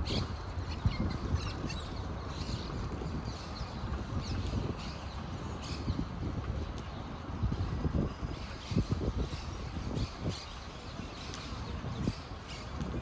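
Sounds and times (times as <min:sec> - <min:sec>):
bicycle tyres rolling on asphalt: 0:00.0 - 0:13.0
wind rumble on microphone: 0:00.0 - 0:13.0.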